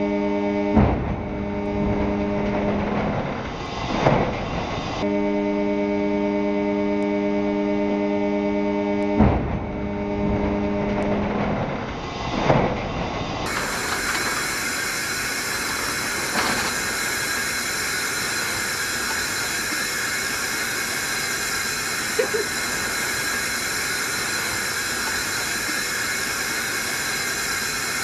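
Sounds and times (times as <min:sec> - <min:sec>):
locomotive rushing noise: 0:00.0 - 0:28.0.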